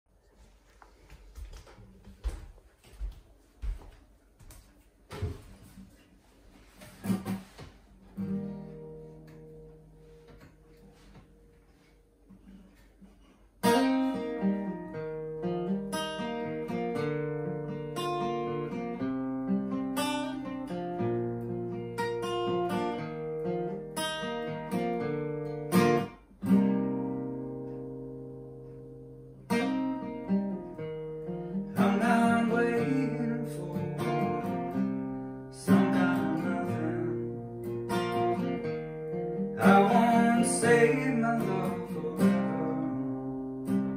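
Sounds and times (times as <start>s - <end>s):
fingerstyle acoustic guitar: 4.6s - 43.9s.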